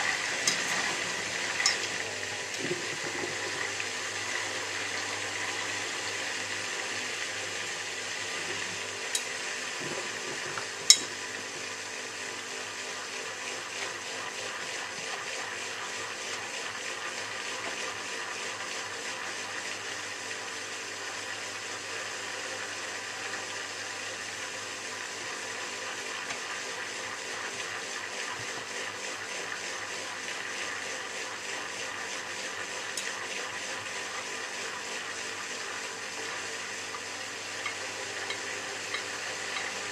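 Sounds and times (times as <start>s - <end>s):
water rushing into washing machine: 0.0s - 39.9s.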